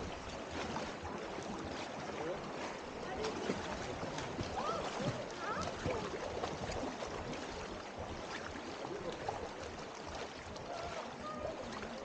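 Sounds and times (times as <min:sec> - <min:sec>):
river water flowing: 0:00.0 - 0:12.0
small water splashes: 0:00.0 - 0:12.0
faint distant voices: 0:01.7 - 0:12.0.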